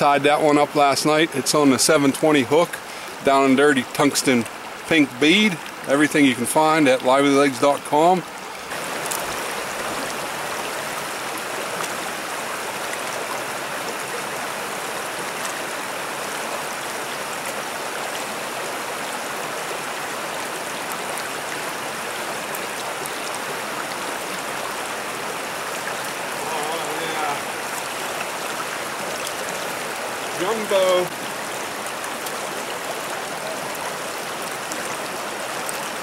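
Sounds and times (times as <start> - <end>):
stream rushing over stones: 0.0 - 36.0.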